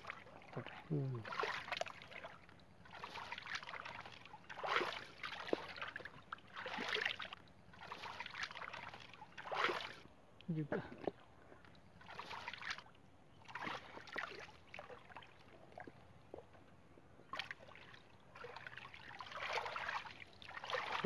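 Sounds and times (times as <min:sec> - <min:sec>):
hands squelching in wet mud: 0:00.0 - 0:10.1, 0:10.8 - 0:16.5, 0:17.3 - 0:21.0.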